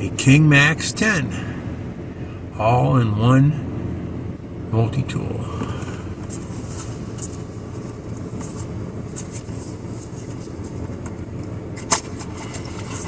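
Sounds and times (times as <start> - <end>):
air conditioning running: 0.0 - 13.0
car engine idling: 0.0 - 13.0.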